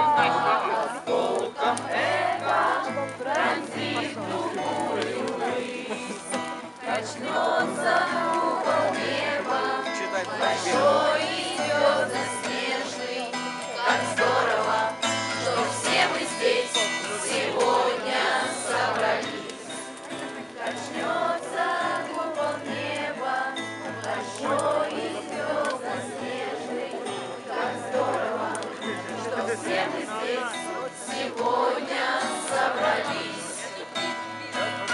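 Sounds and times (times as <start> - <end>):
group of voices singing: 0.0 - 34.9.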